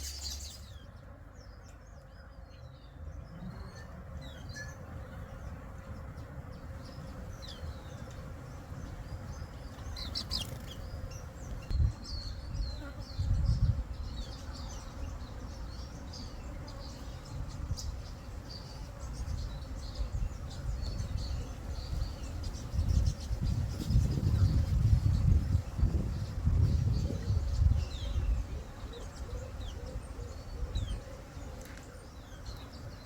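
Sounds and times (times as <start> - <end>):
small birds twittering: 0.0 - 33.0.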